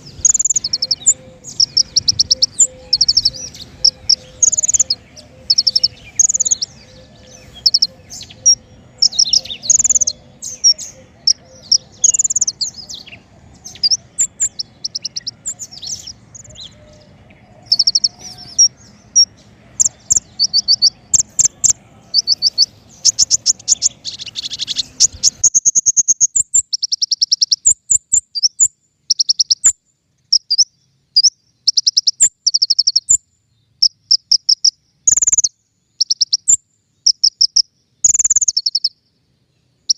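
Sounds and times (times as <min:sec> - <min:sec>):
songbird trills and chirps: 0:00.0 - 0:39.9.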